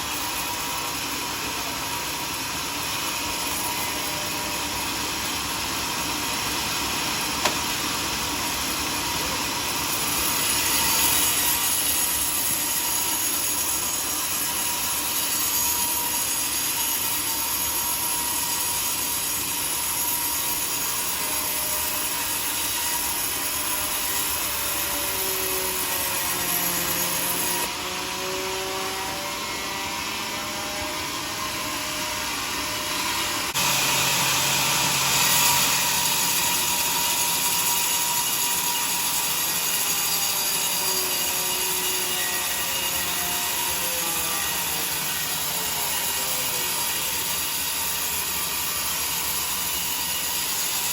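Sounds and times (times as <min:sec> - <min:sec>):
sawmill saw cutting log: 0:00.0 - 0:50.9.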